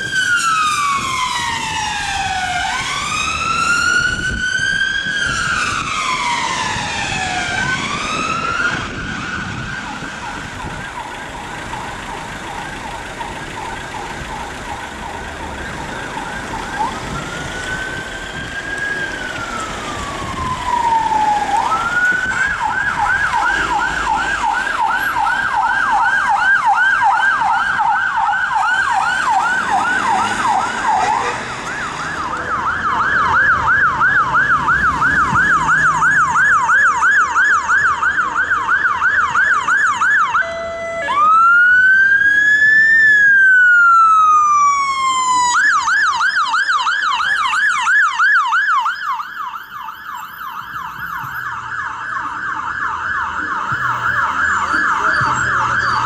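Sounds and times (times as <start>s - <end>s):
siren wailing: 0.0s - 56.0s
siren yelping: 0.0s - 56.0s.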